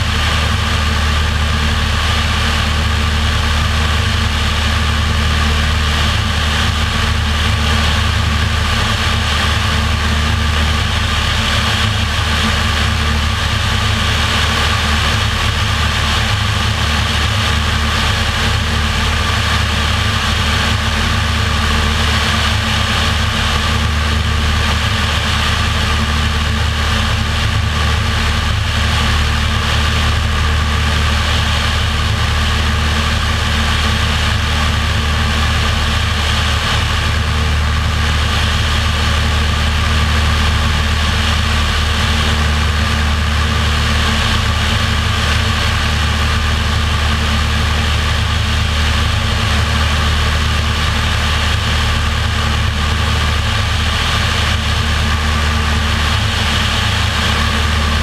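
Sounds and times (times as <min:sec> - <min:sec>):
propeller airplane engine drone: 0:00.0 - 0:58.0.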